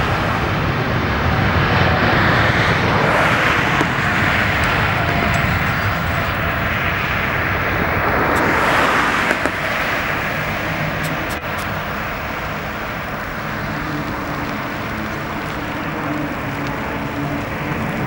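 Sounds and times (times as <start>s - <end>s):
jet engine at takeoff: 0.0s - 18.0s.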